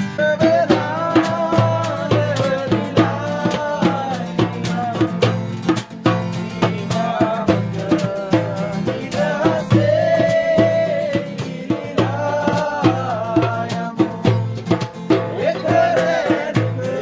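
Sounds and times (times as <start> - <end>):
group singing: 0.0 - 17.0
hand drum beaten with palm: 0.0 - 17.0.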